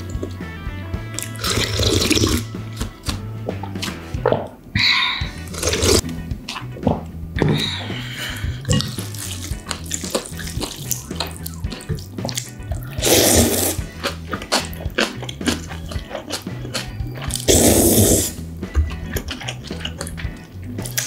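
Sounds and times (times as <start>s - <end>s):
quiet background music: 0.0s - 21.0s
slurping liquid from a bowl: 1.2s - 4.5s, 5.2s - 20.2s
mouth clicks: 1.2s - 21.0s.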